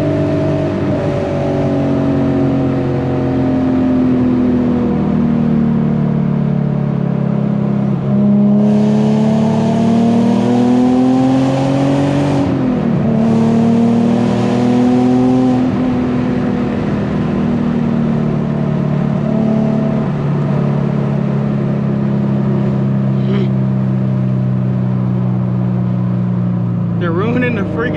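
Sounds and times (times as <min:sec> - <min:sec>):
car engine accelerating: 0:00.0 - 0:27.9.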